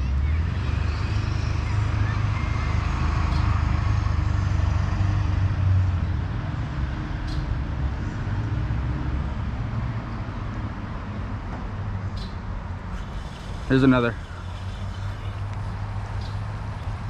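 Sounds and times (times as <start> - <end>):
vehicle passing on road: 0.0 - 17.0.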